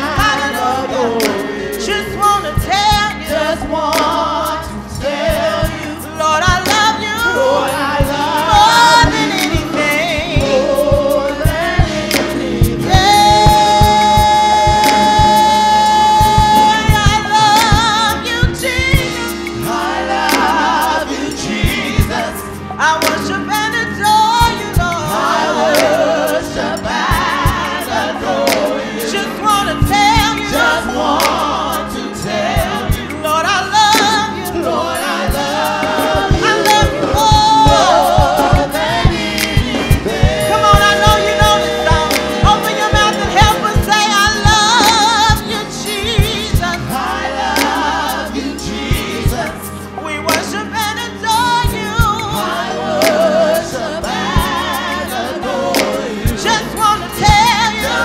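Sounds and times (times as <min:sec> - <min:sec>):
choir singing: 0:00.0 - 0:58.0
lead vocalists singing with vibrato: 0:00.0 - 0:58.0
live band accompaniment: 0:00.0 - 0:58.0.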